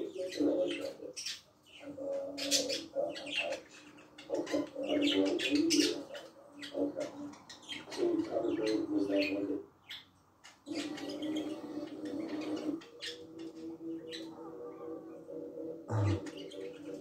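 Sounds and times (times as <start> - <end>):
budgerigars chirping: 0.0 - 14.3.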